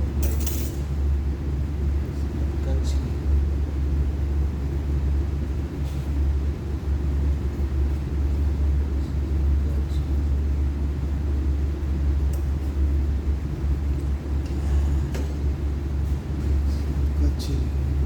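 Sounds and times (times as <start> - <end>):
low hum of running machinery: 0.0 - 18.0.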